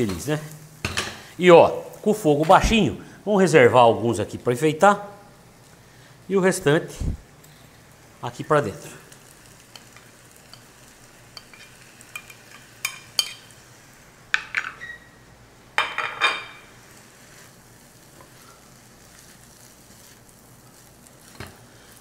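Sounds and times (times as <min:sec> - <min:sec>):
faint sizzle: 0:00.0 - 0:22.0.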